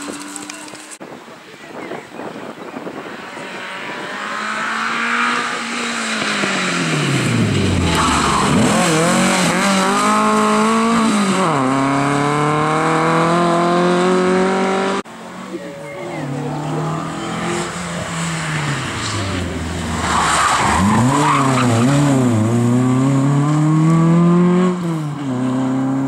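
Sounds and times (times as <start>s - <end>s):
rally car engine accelerating: 3.3s - 15.0s, 16.2s - 26.0s.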